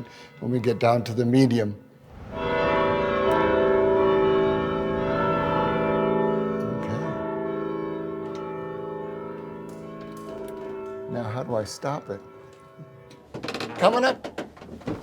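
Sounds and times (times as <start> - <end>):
church bell ringing: 2.1 - 14.1.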